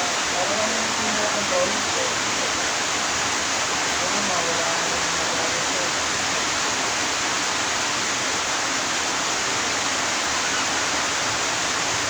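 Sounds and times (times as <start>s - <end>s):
steady rushing hiss: 0.0s - 12.0s.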